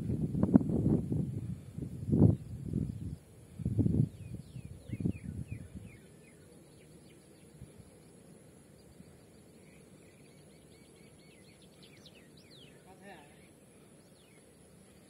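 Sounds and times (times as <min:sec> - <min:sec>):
birds chirping: 0:02.2 - 0:15.0.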